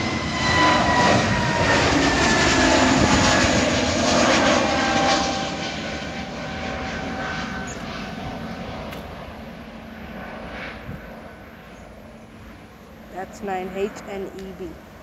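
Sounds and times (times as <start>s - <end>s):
jet airliner engines roaring: 0.0s - 15.0s.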